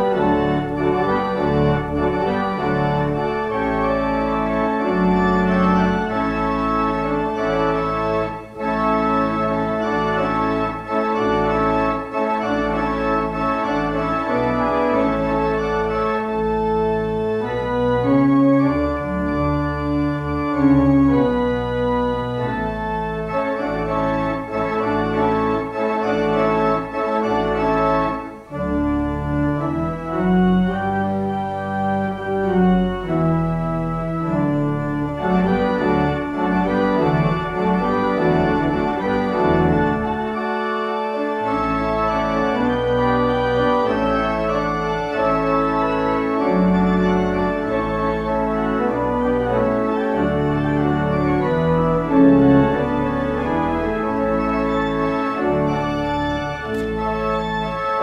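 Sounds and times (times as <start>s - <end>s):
church organ playing chords: 0.0s - 58.0s.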